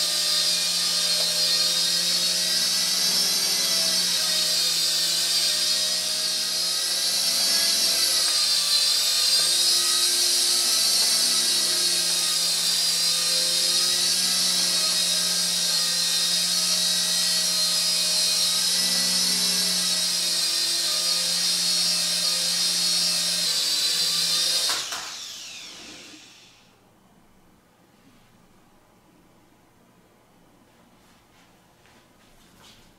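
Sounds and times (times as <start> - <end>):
toy helicopter motor whine: 0.0 - 26.7.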